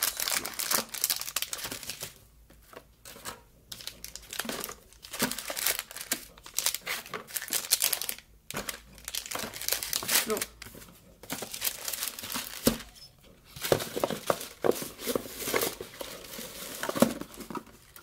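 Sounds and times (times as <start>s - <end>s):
paper and packaging crinkling: 0.0s - 18.0s.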